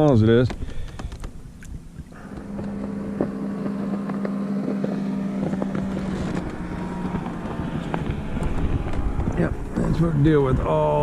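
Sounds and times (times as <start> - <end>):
motorboat engine drone: 0.6 - 11.0.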